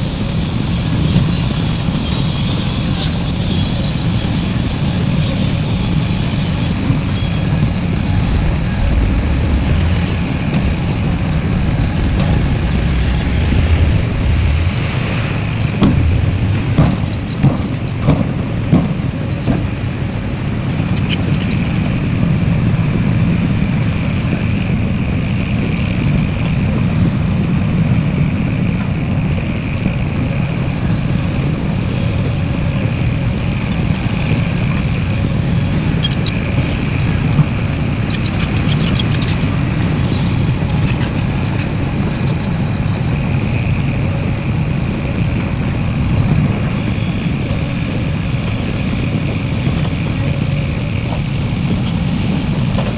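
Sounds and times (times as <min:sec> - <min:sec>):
diesel engine running: 0:00.0 - 0:52.9
high machine whine: 0:00.0 - 0:52.9.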